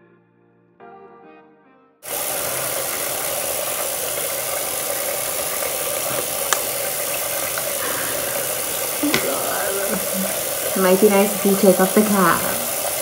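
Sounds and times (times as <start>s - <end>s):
faucet running into sink: 2.1s - 13.0s.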